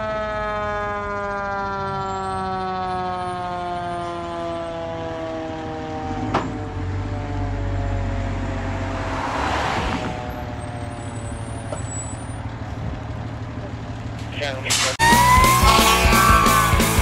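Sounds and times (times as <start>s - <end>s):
fire engine siren winding down: 0.0s - 12.4s, 14.2s - 17.0s
truck engine rumble: 0.0s - 17.0s.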